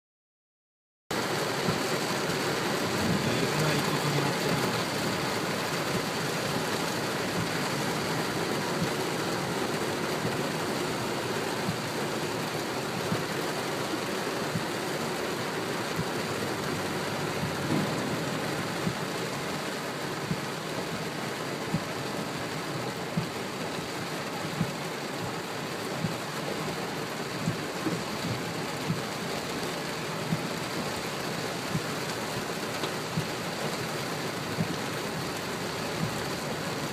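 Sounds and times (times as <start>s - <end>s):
raindrops ticking nearby: 1.1s - 36.9s
torrential rain pouring: 1.1s - 36.9s.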